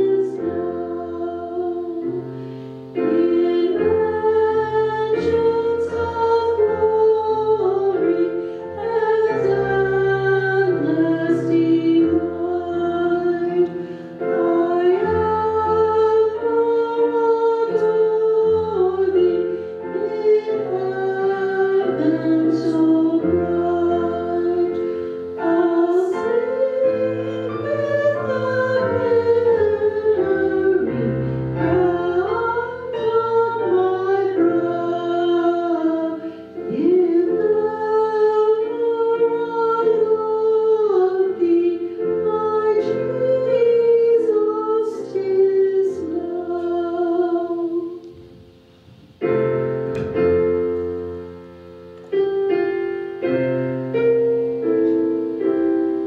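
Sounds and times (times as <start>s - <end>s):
woman singing a hymn: 0.0s - 48.3s
piano accompaniment: 0.0s - 56.0s.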